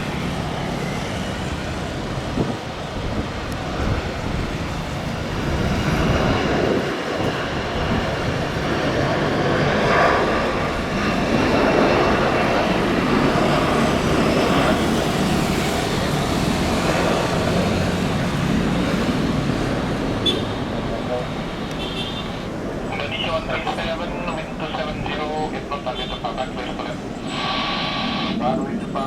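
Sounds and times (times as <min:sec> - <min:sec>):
jet engines at takeoff: 0:00.0 - 0:29.0.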